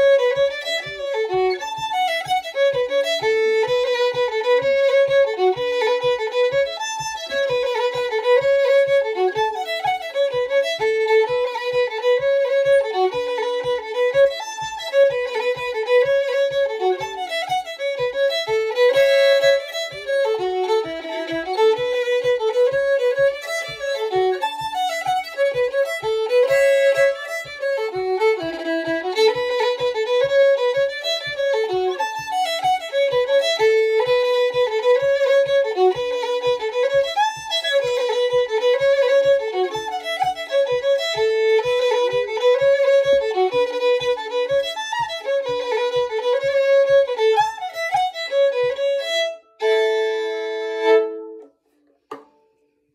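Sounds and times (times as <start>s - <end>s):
low thump on the beat: 0.0s - 47.6s
fiddle playing lively tune: 0.0s - 52.3s.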